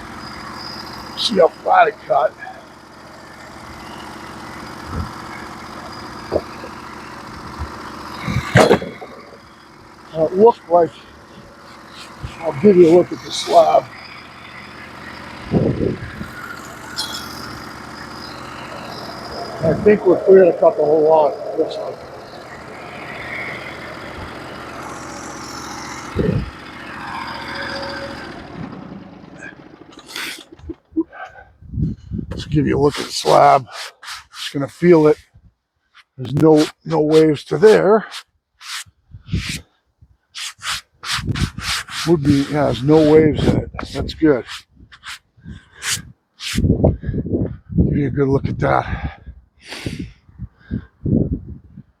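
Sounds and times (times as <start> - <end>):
gas engine idling: 0.0 - 35.2, 40.5 - 47.1.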